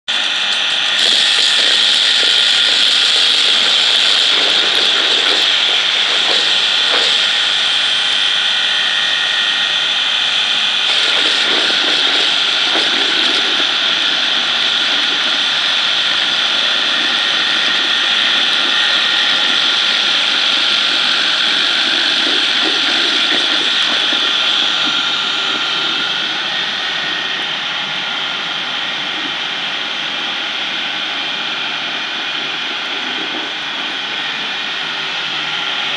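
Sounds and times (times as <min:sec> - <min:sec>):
electric grinder whining: 0:00.1 - 0:35.9.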